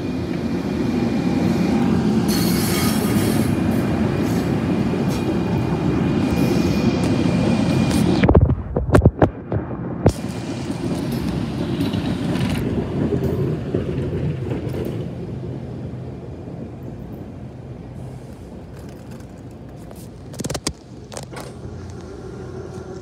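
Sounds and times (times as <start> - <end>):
train rumbling past: 0.0 - 8.3, 10.1 - 23.0.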